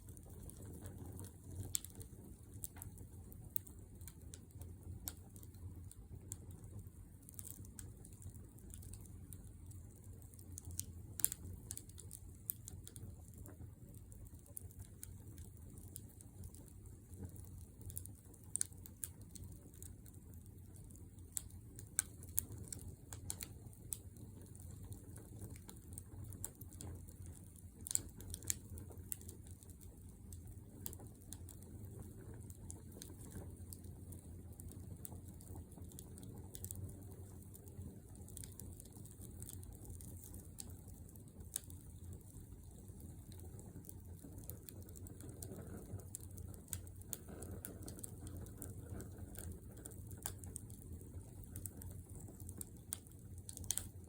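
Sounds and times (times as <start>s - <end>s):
low rumble of flame: 0.0s - 54.0s
burning wood crackling: 0.1s - 54.0s.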